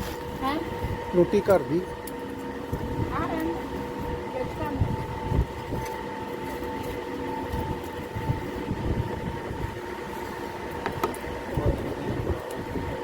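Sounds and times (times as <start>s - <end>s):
constant whine: 0.0s - 13.0s.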